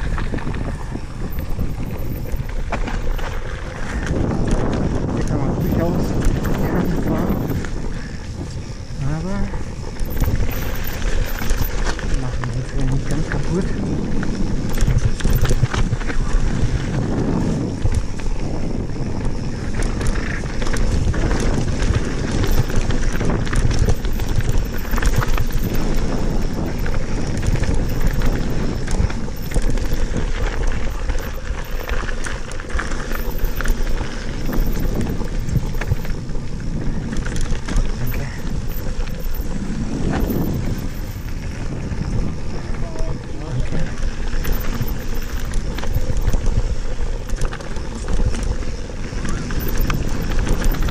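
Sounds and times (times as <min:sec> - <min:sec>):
bike rattling and clicking: 0:00.0 - 0:50.9
tyres crunching on gravel: 0:00.0 - 0:50.9
wind buffeting microphone: 0:00.0 - 0:50.9.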